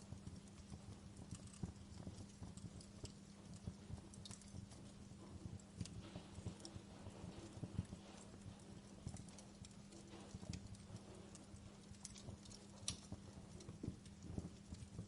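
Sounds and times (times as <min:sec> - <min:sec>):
steady low hum: 0:00.0 - 0:15.0
wood fire crackling: 0:00.0 - 0:15.0.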